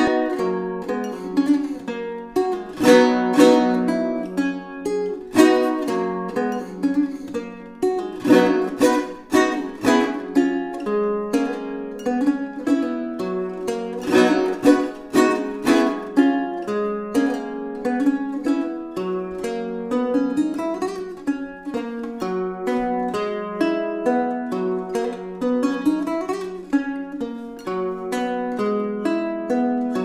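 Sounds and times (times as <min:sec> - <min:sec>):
guitar strumming and plucking: 0:00.0 - 0:30.0.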